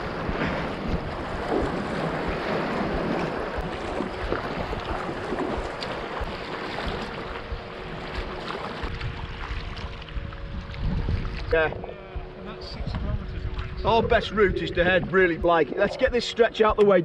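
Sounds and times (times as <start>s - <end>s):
wind rumbling on microphone: 0.0s - 16.8s
water splashing around kayak: 0.0s - 17.0s
waves washing: 0.0s - 17.0s.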